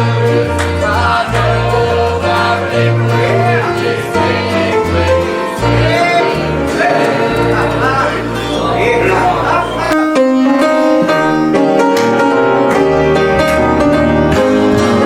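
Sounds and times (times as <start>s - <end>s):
instrumental accompaniment: 0.0s - 15.0s
voices singing a hymn: 0.0s - 15.0s.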